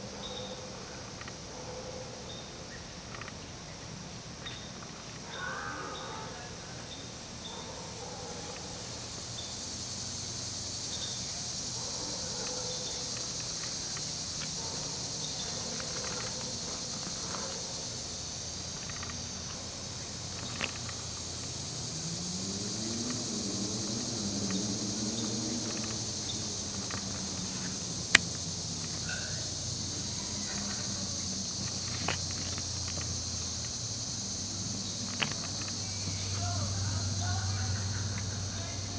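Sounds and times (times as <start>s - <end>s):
high insect chirring: 0.0s - 38.9s.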